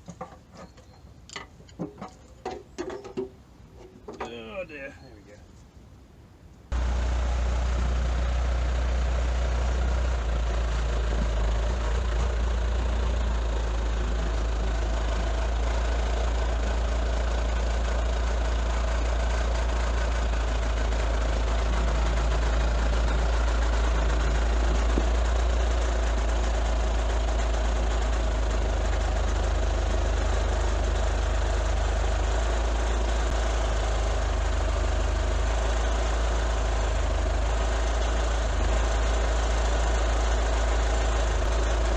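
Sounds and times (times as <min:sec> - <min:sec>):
engine droning: 0:06.7 - 0:41.9.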